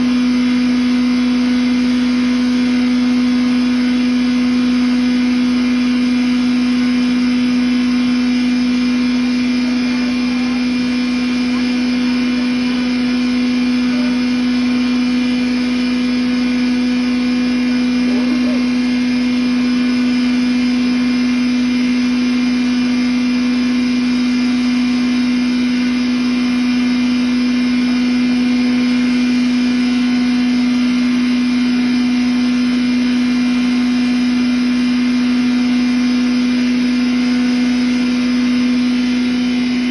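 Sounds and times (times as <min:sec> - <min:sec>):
grinder humming and whirring: 0:00.0 - 0:39.9.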